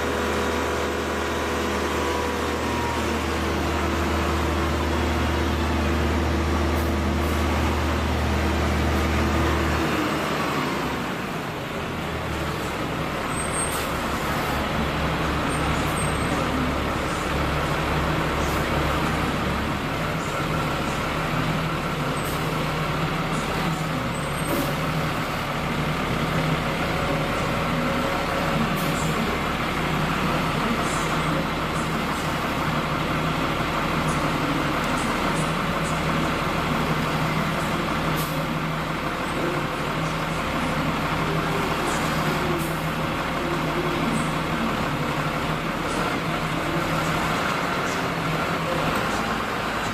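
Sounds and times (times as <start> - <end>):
large diesel engine running: 0.0 - 49.9.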